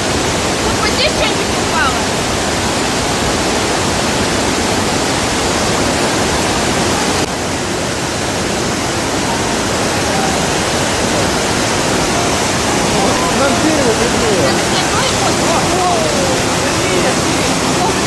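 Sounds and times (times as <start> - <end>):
torrent of rushing water: 0.0 - 18.0.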